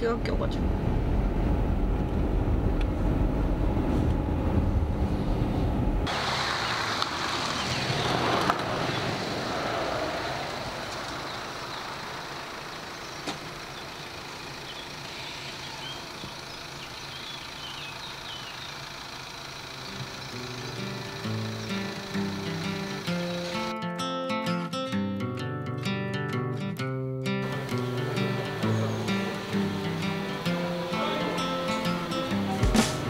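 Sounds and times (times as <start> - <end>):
car road noise inside cabin: 0.0 - 23.7, 27.4 - 33.0
open-air ambience: 0.0 - 33.0.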